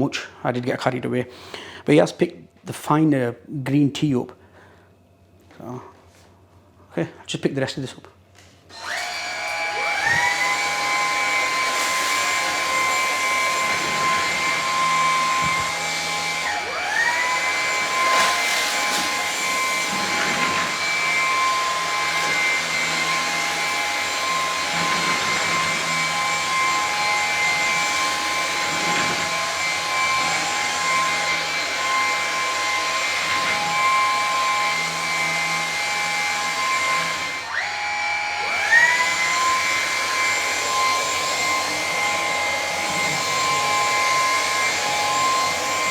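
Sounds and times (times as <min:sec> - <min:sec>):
vacuum motor whining: 0:08.7 - 0:45.9.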